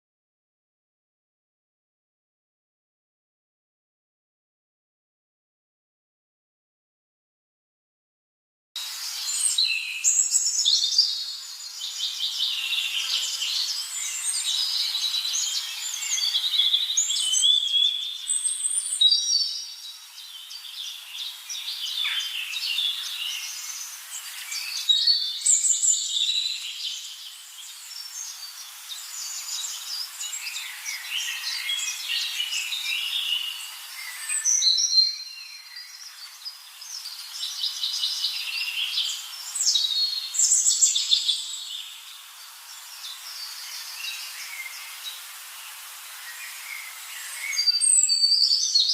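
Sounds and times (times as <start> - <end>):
songbirds chirping and singing: 8.9 - 45.4, 46.1 - 48.9.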